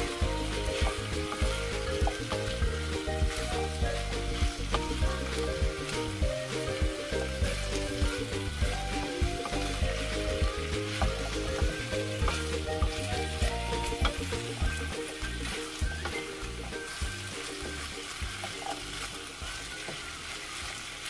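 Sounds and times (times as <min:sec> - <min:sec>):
background music: 0:00.0 - 0:21.0
food sizzling in a frying pan: 0:00.0 - 0:21.0.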